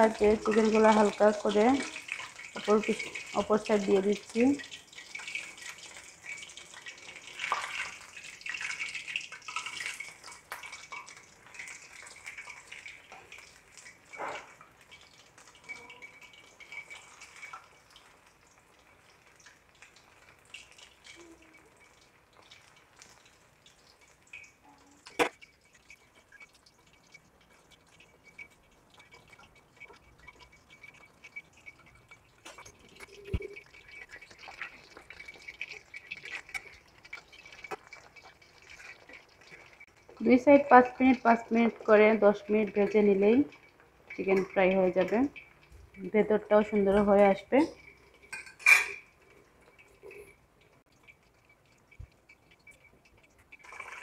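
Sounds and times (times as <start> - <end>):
chicken deep-frying in oil: 0.0 - 54.0.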